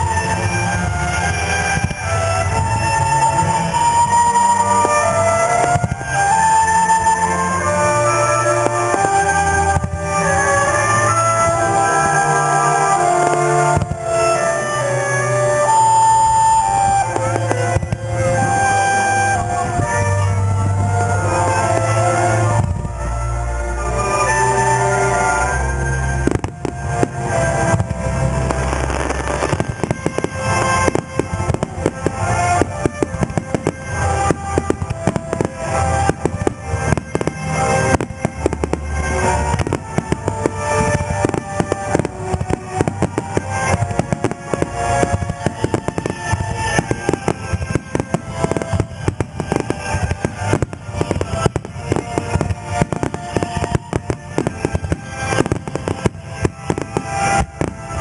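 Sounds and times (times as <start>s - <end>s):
fireworks bursting: 0.0s - 58.0s
music playing: 0.0s - 58.0s.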